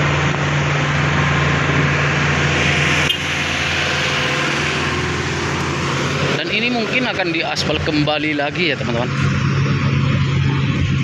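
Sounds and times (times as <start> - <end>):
heavy engine running: 0.0 - 11.0.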